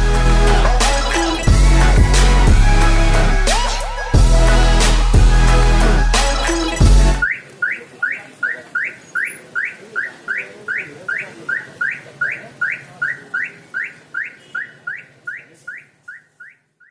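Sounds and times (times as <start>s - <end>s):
car alarm siren chirping: 0.5s - 16.9s.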